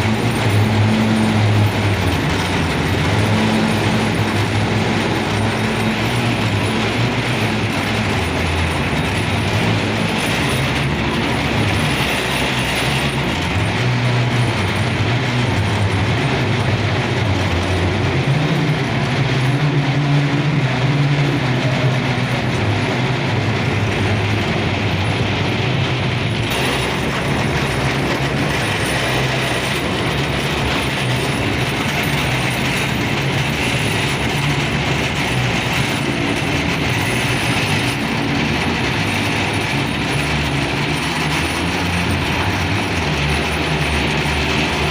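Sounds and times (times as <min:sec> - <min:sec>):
train rumbling along track: 0:00.0 - 0:44.9.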